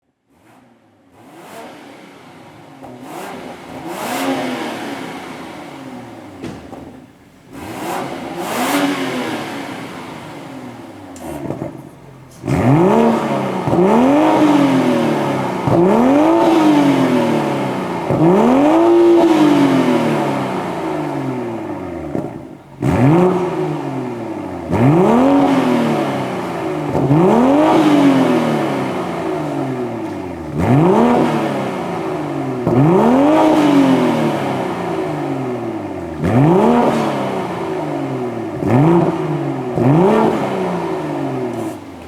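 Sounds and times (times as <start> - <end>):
car engine revving: 0.3 - 42.0.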